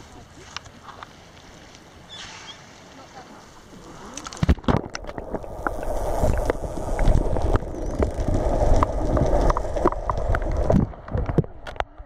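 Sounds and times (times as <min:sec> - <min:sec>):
underwater water rush: 0:00.0 - 0:12.0.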